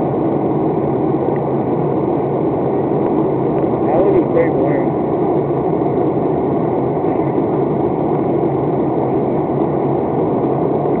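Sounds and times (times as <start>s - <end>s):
airplane cabin drone: 0.0s - 11.0s.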